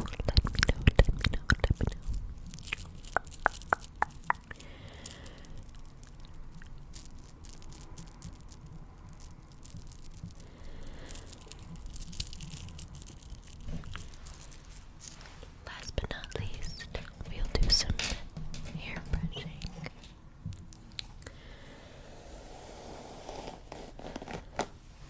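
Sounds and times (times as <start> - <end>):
soft hiss: 0.0 - 25.0.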